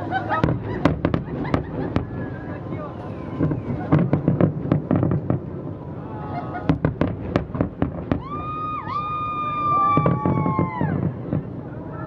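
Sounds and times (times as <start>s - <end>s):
fireworks popping and crackling: 0.3s - 5.7s, 6.7s - 11.7s.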